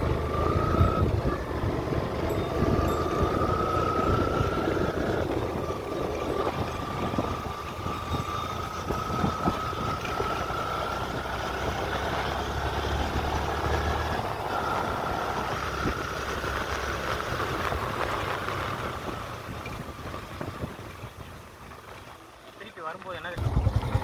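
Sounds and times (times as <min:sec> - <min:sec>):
motorcycle engine running: 0:00.0 - 0:22.6, 0:23.3 - 0:24.0
wind and road noise: 0:00.0 - 0:24.0.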